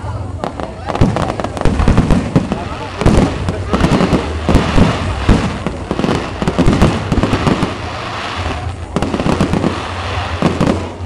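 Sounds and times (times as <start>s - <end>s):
fireworks shells bursting: 0.6s - 11.0s.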